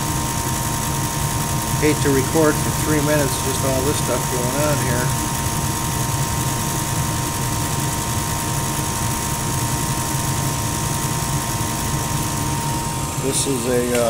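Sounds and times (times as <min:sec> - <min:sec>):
constant thin high tone: 0:00.0 - 0:14.0
furnace blower hum and air rush: 0:00.0 - 0:14.0.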